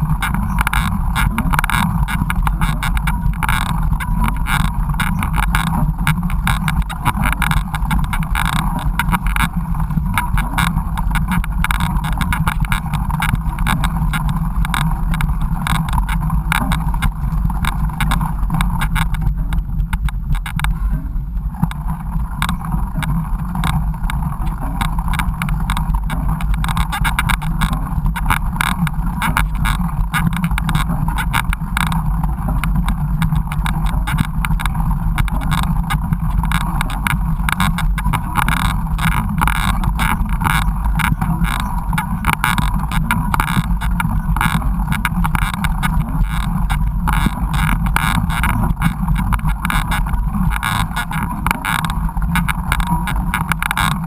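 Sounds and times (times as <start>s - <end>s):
bike rattling and knocking: 0.0s - 54.0s
bike rumble: 0.0s - 54.0s
wind noise on microphone: 0.0s - 54.0s.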